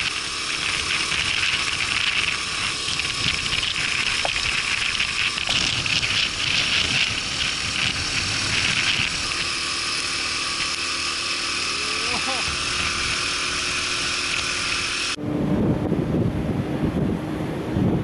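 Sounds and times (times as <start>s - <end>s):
wind and tyre hiss on wet road: 0.0s - 15.2s.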